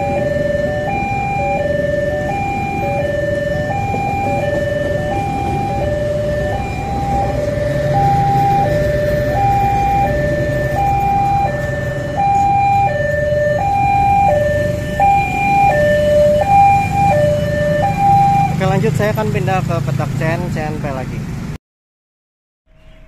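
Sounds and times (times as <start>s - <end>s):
level-crossing alarm two-tone signal: 0.0s - 18.6s
train coaches rumbling on rails: 0.0s - 21.5s.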